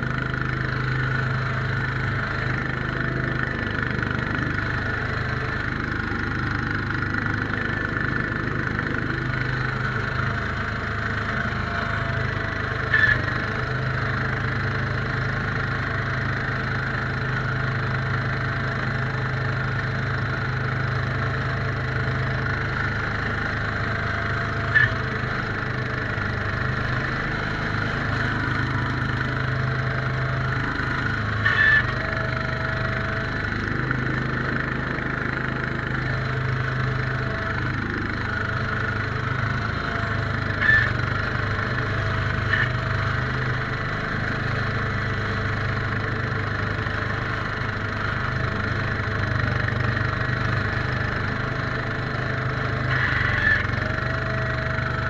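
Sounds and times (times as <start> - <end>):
garden tractor engine running: 0.0 - 55.0
snowblower running under load: 0.0 - 55.0.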